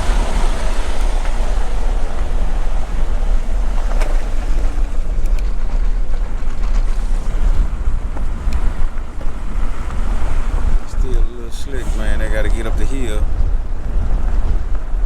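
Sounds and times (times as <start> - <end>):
diesel truck engine rumbling: 0.0 - 15.0
wind buffeting microphone: 0.0 - 15.0.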